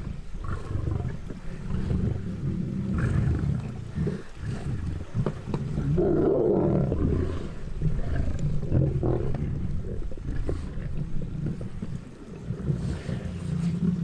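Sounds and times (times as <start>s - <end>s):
lions growling: 0.0s - 14.0s.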